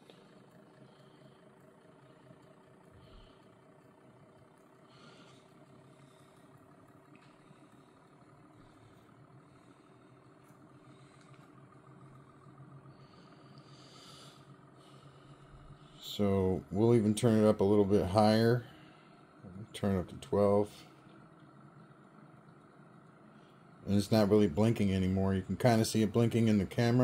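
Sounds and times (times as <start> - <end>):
motor humming and whirring: 0.0 - 27.0.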